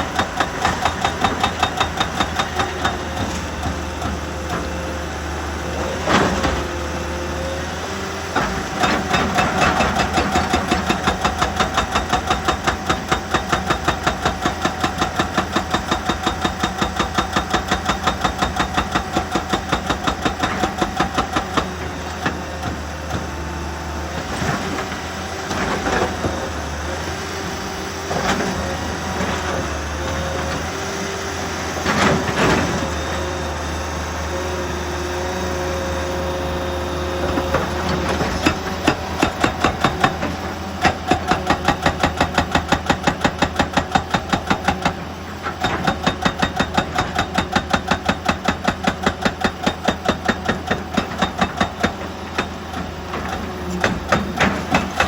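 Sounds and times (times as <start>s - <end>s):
excavator diesel engine whining: 0.0s - 55.0s.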